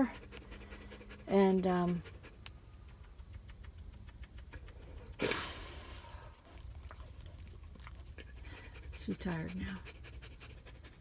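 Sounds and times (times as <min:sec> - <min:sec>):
dog panting softly: 0:00.0 - 0:05.2, 0:06.0 - 0:11.0.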